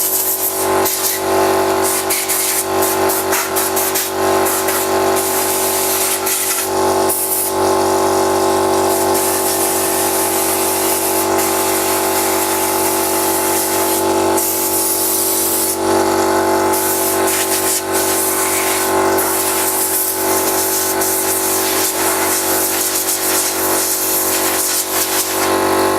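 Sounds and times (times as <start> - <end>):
compressed air hissing: 0.0 - 1.2, 1.8 - 7.6, 8.8 - 15.9, 16.6 - 25.7
air compressor running: 0.0 - 25.9.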